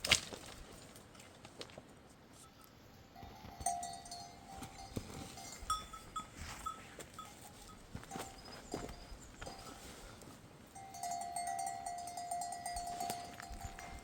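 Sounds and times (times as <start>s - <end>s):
sheep bells ringing: 2.6s - 14.0s.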